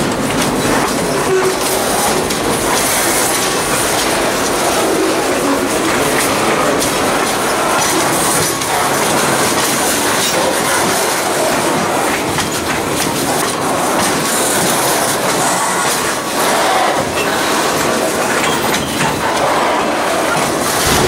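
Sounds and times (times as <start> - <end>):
clanks and clicks from rail joints: 0.0 - 21.0
freight cars rolling on rails: 0.0 - 21.0.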